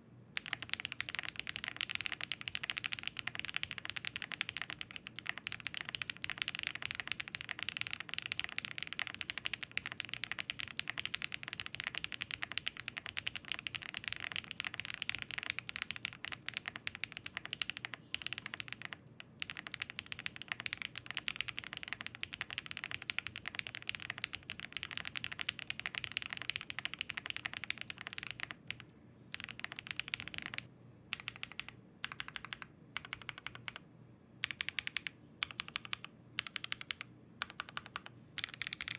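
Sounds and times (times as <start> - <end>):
mechanical keyboard typing: 0.4 - 33.8, 34.4 - 38.9.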